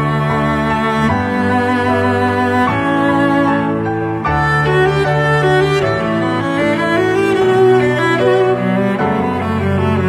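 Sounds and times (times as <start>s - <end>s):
violin and cello playing: 0.0s - 10.0s.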